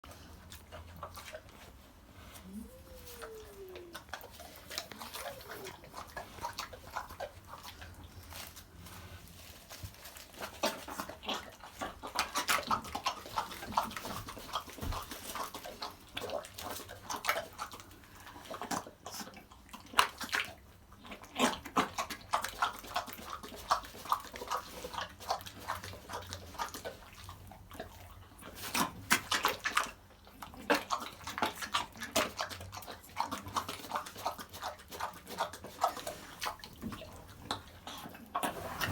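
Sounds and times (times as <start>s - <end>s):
pig chewing and smacking: 0.0s - 38.9s.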